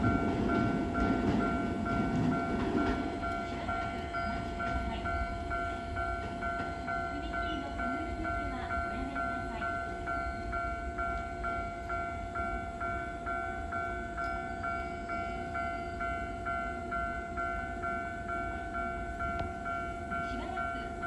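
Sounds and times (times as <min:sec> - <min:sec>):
level crossing alarm ringing: 0:00.0 - 0:21.0
train rumbling: 0:00.0 - 0:21.0.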